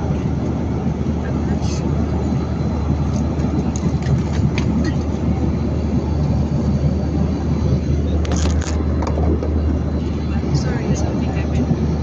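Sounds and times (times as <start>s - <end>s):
jet engine drone in cabin: 0.0s - 12.0s.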